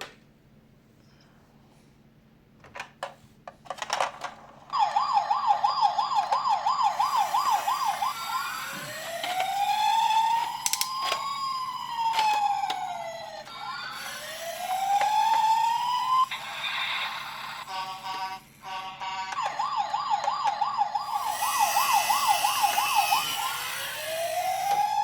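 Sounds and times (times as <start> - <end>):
electronic siren: 4.8 - 25.0.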